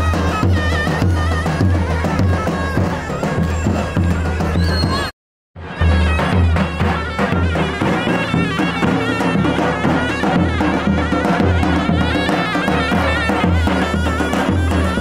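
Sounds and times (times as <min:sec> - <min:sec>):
reed pipe folk melody: 0:00.0 - 0:15.0.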